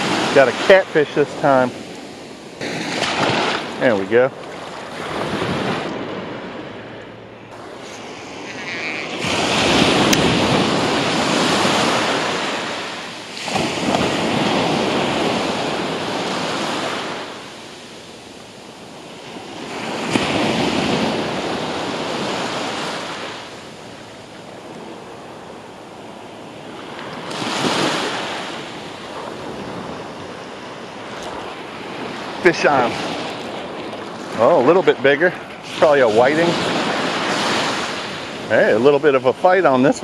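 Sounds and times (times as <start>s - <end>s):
small waves breaking on sand: 0.0s - 40.0s.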